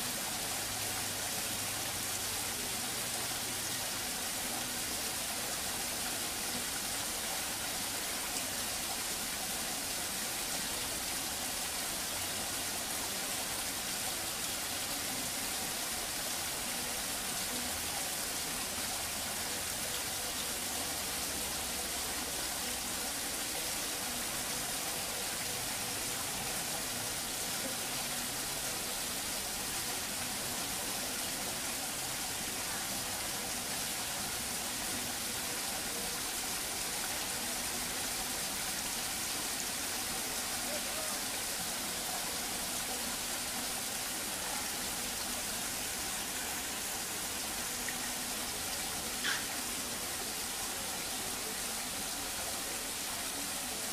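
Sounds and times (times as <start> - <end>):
running water hissing: 0.0 - 53.9.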